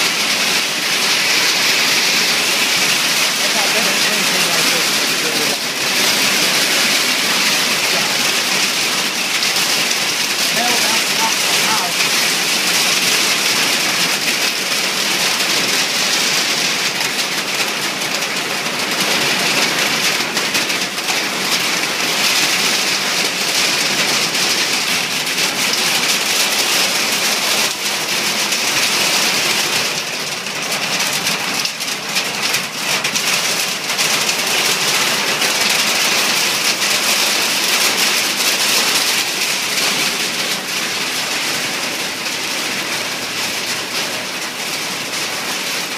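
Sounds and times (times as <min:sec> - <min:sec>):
heavy rain and hail falling: 0:00.0 - 0:45.9.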